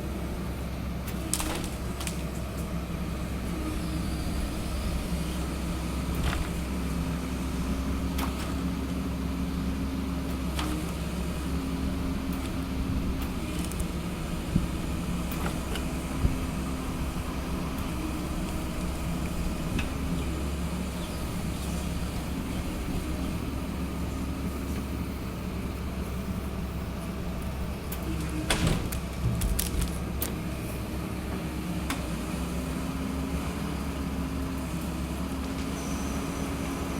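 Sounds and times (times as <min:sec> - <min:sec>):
diesel engine and hydraulics: 0:00.0 - 0:36.9.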